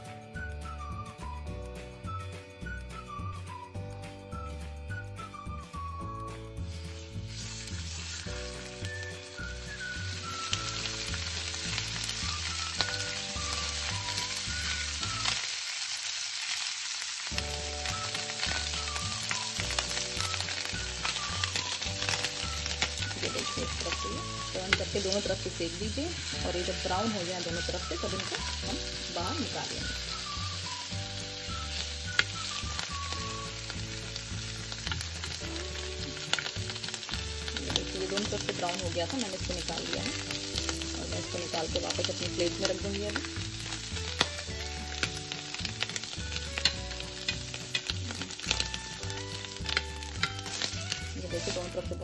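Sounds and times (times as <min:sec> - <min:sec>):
food sizzling in oil: 0:00.0 - 0:52.0
soft background music: 0:00.0 - 0:52.0.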